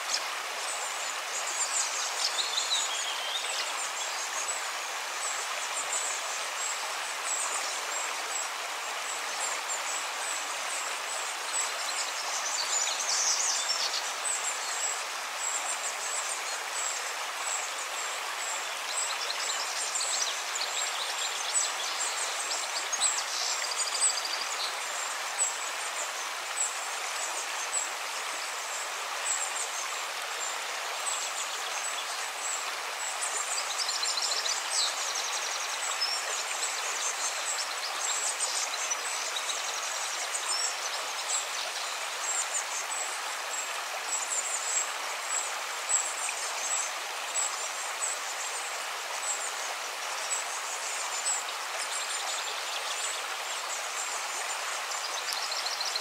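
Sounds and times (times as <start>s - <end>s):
flowing stream rushing: 0.0s - 56.0s.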